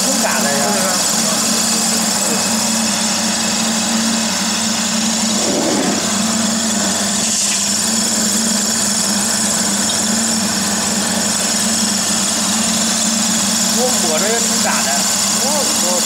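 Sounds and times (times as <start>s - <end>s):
extruder machine drone: 0.0s - 16.0s.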